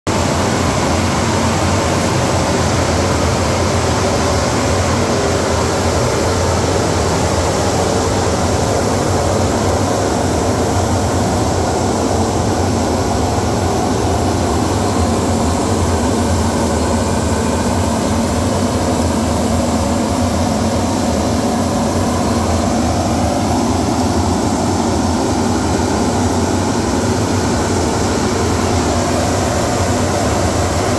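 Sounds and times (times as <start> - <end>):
exhaust fan running: 0.1 - 30.9.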